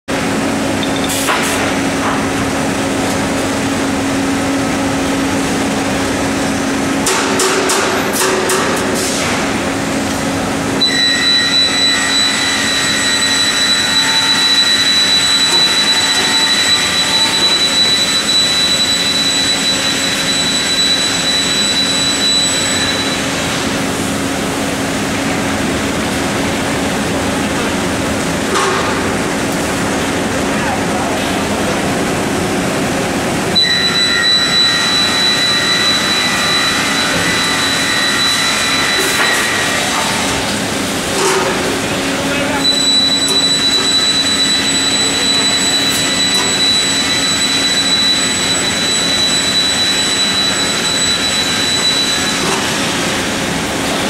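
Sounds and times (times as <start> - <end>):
steady mechanical hum: 0.1 - 54.0.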